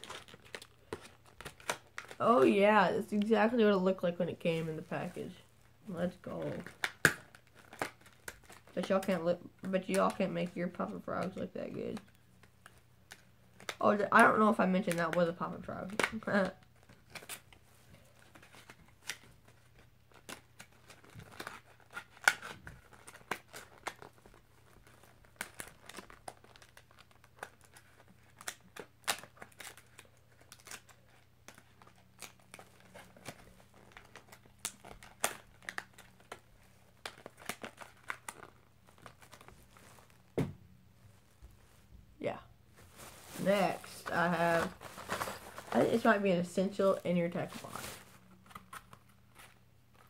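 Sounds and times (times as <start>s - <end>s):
plastic packaging crinkling: 0.0s - 9.2s, 9.8s - 40.4s, 42.7s - 50.0s.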